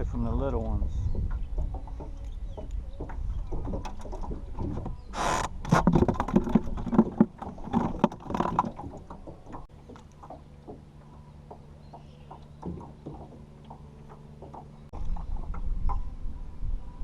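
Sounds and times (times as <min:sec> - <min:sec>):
clattering knocks in boat: 0:00.4 - 0:16.1.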